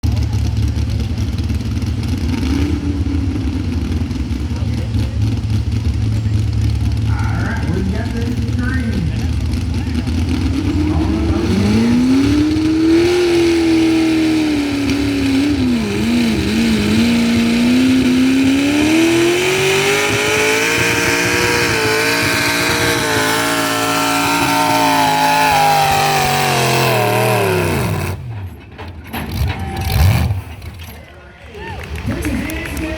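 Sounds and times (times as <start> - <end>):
truck engine revving under load: 0.0 - 31.0.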